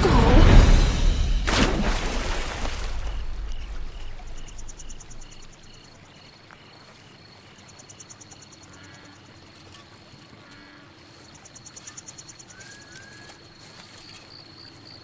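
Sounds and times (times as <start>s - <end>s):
crickets chirping: 2.2s - 15.0s.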